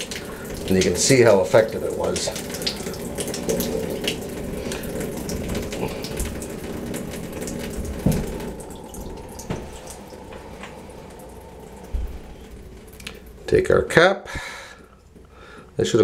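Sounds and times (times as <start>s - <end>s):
water running from faucet: 0.0s - 14.0s.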